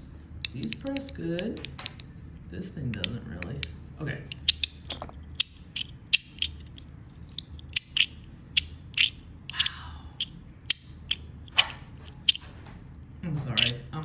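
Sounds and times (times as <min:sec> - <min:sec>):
metal fidget toy clicking: 0:00.0 - 0:02.1, 0:02.9 - 0:12.4, 0:13.5 - 0:14.0.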